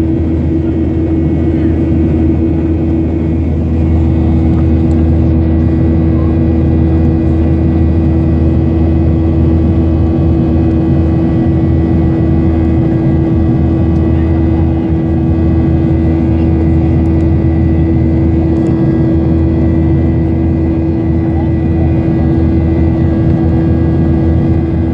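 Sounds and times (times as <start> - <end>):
fixed hum: 0.0 - 24.9
jet engines droning: 0.0 - 24.9
low cabin rumble: 0.0 - 24.9.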